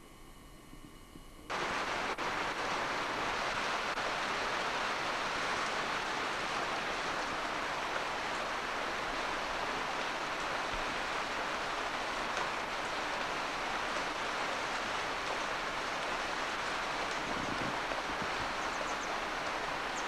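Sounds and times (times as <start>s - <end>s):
water rushing: 1.5s - 20.0s.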